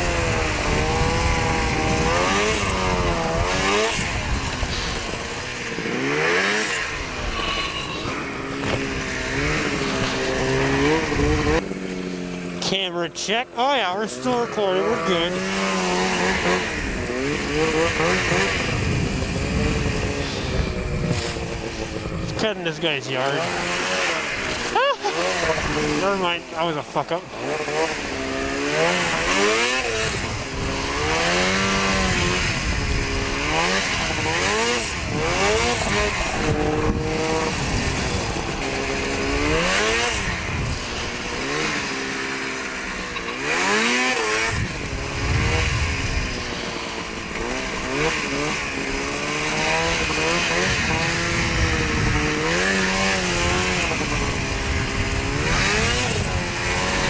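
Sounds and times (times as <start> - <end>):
snowmobile engine revving: 0.0 - 57.0
wind and track noise: 0.0 - 57.0.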